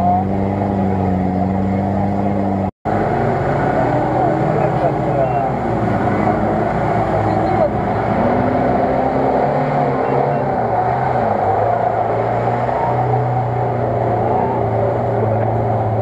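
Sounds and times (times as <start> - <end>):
off-road vehicle engine straining: 0.0 - 16.0.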